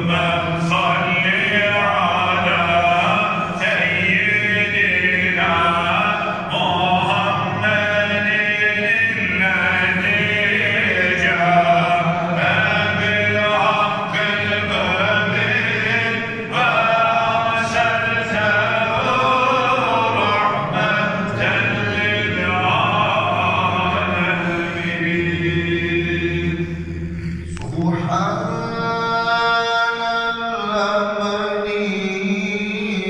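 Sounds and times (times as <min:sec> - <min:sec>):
melodic religious chanting: 0:00.0 - 0:33.0.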